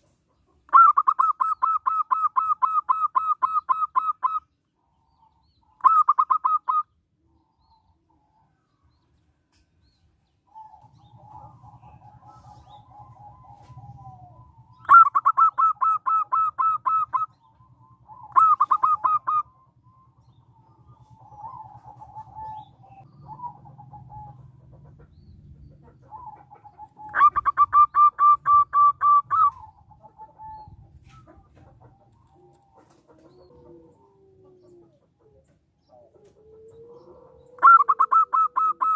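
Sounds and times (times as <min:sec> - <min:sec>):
dove cooing trills: 0:00.0 - 0:09.0, 0:09.9 - 0:38.9.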